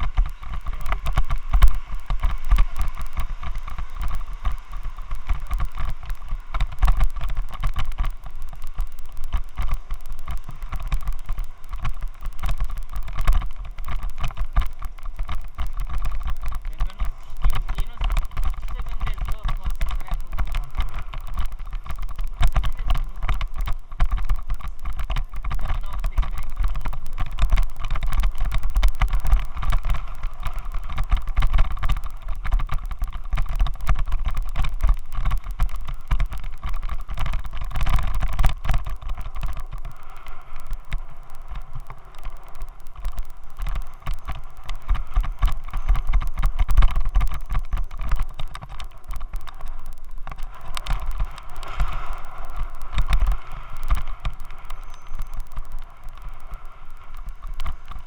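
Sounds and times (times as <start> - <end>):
low wind rumble: 0.0 - 58.0.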